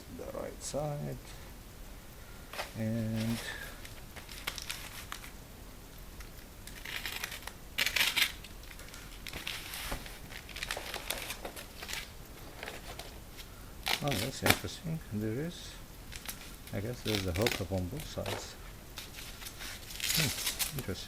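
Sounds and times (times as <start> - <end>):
packaging crinkling and rustling: 2.5 - 14.8, 15.4 - 21.0.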